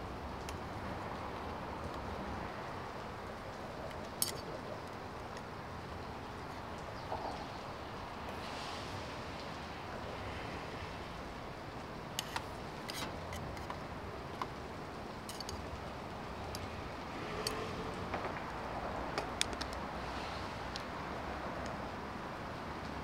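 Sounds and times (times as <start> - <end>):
steady hiss: 0.0 - 19.1.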